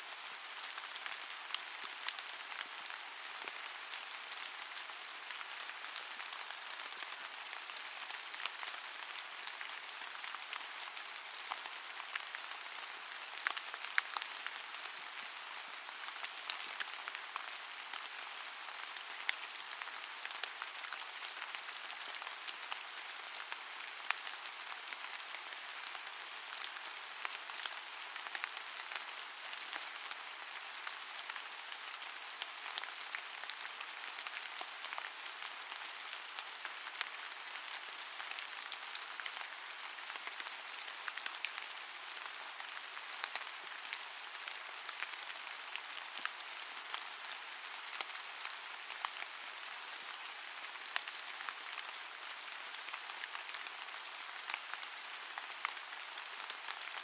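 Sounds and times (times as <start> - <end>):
raindrops ticking on a surface: 0.0 - 57.0
steady rain: 0.0 - 57.0.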